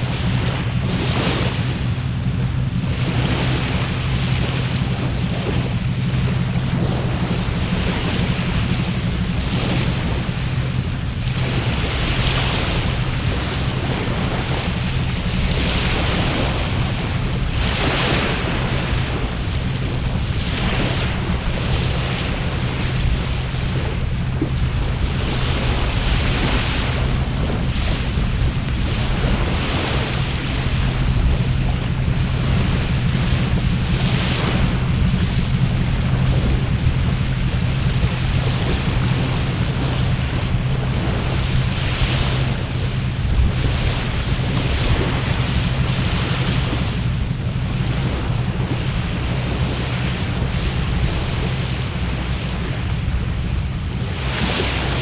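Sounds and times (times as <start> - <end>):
steady high-pitched tone: 0.0 - 55.0.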